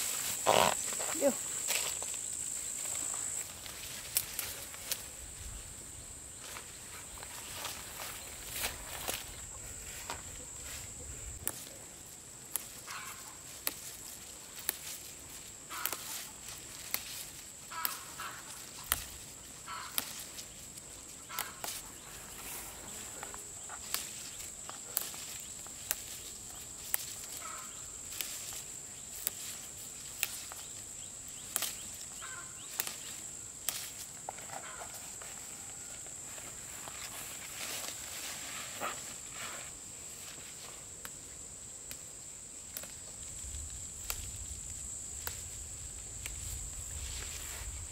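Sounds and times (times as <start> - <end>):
leaves rustling as plucked: 0.0 - 5.1, 6.4 - 35.5, 42.6 - 47.9.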